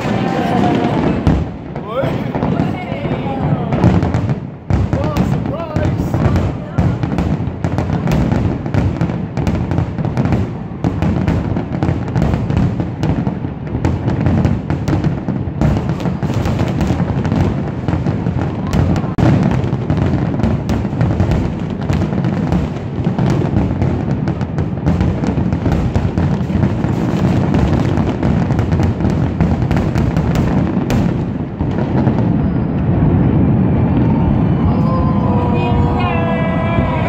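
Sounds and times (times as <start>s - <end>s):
fireworks bursting and crackling: 0.0s - 37.0s.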